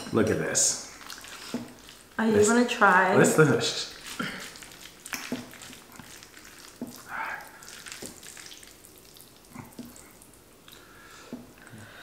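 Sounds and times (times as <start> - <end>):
wet crackling of noodles: 0.0 - 12.0.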